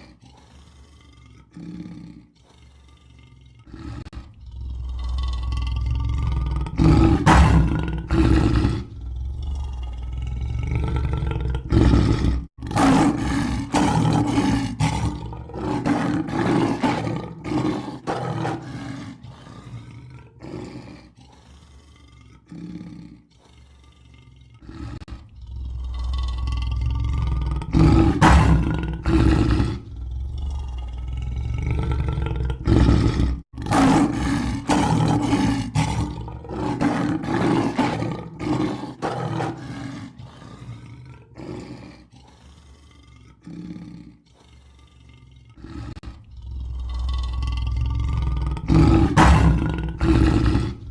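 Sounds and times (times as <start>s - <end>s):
lion roaring: 0.0s - 50.9s.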